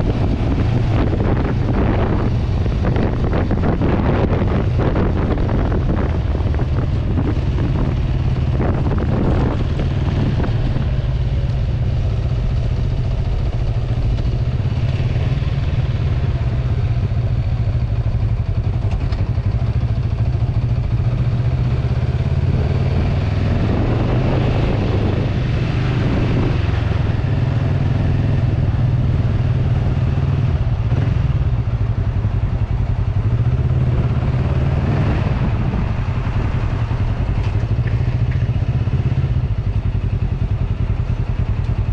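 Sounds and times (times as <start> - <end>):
motorcycle engine running: 0.0 - 41.9
wind rushing over microphone: 0.0 - 41.9.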